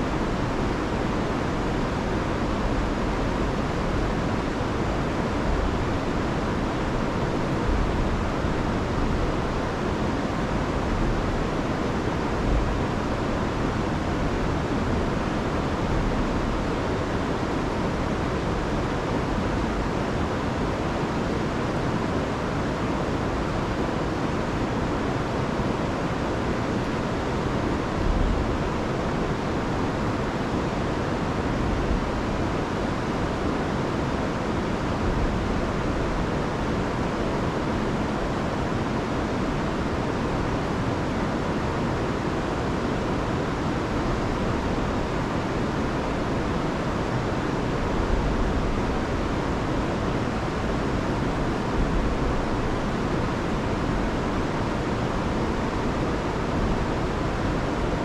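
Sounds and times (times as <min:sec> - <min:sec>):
rushing river water: 0:00.0 - 0:58.0.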